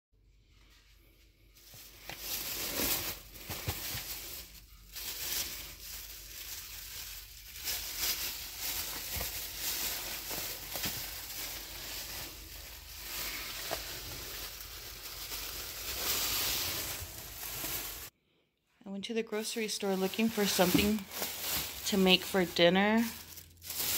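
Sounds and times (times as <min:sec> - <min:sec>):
plastic bags rustling: 0:00.6 - 0:18.1, 0:19.3 - 0:23.9.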